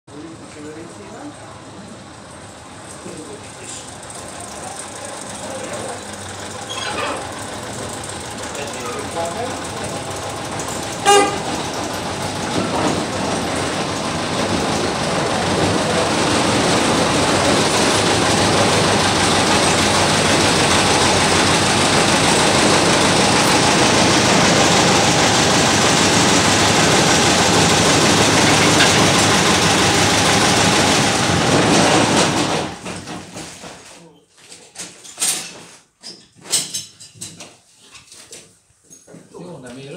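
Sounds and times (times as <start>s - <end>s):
diesel locomotive engine running: 0.1s - 33.8s.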